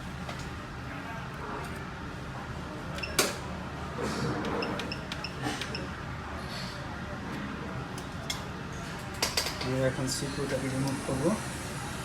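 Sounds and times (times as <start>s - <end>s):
fan humming and hissing: 0.0s - 12.0s.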